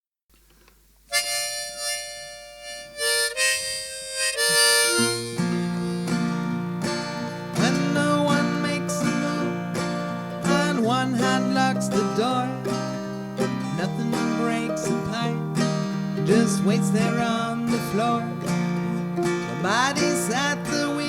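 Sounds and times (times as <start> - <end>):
acoustic guitar: 1.1 - 21.0
harmonica playing: 1.1 - 21.0.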